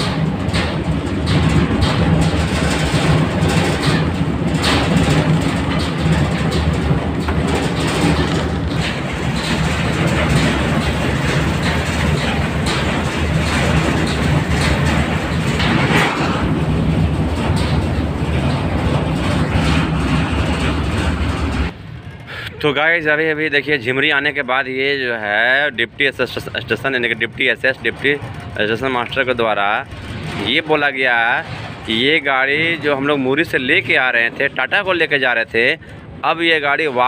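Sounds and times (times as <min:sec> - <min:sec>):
train rumble: 0:00.0 - 0:37.0
wheels clattering over rails: 0:00.0 - 0:37.0.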